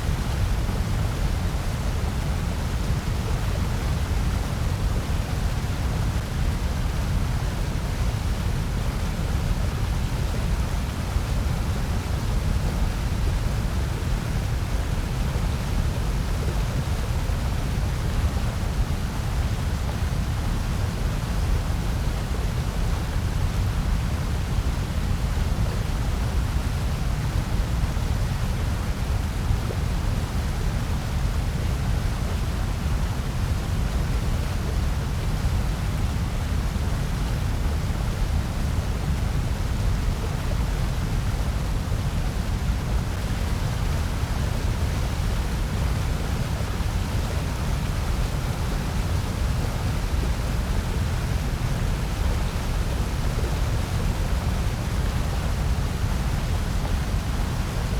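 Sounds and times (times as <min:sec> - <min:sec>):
white noise with deep rumble: 0:00.0 - 0:57.9.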